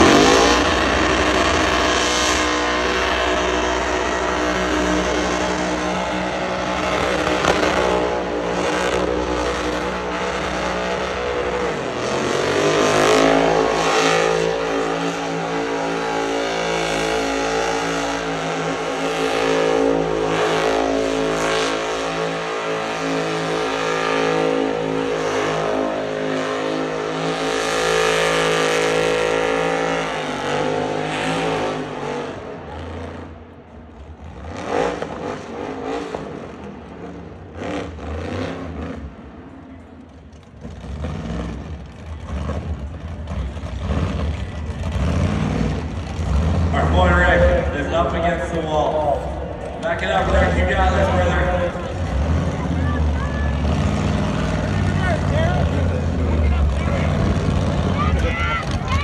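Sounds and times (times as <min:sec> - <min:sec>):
truck engine revving high: 0:00.0 - 0:59.0.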